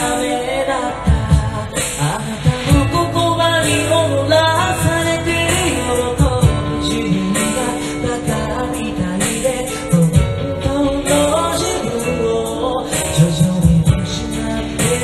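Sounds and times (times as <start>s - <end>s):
man singing into microphone: 0.0s - 15.0s
pop backing track with beat: 0.0s - 15.0s
woman singing: 0.0s - 15.0s.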